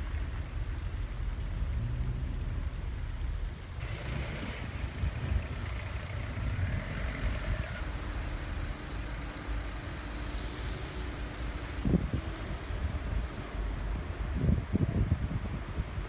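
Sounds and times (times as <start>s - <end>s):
wind rumbling on microphone: 0.0s - 8.8s, 11.8s - 16.0s
road traffic: 0.0s - 16.0s.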